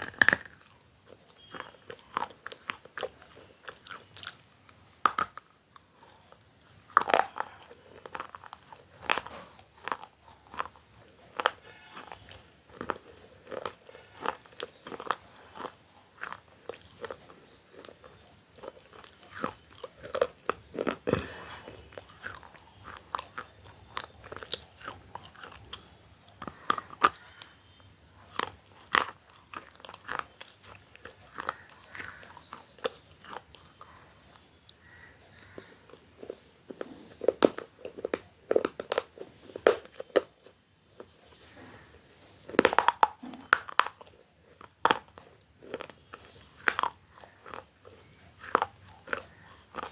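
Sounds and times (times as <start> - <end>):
crunching food: 0.0 - 49.9
soft chewing: 0.0 - 49.9.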